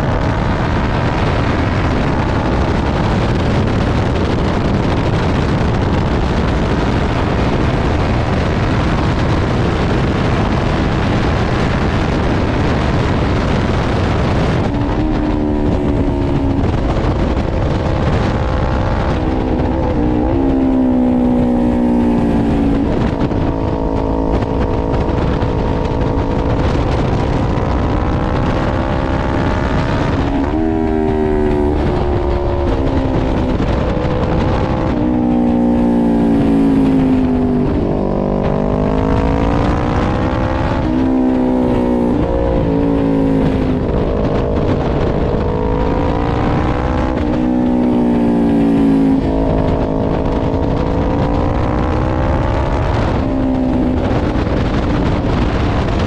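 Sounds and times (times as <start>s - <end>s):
motorbike engine revving: 0.0s - 56.0s
wind roar: 0.0s - 56.0s.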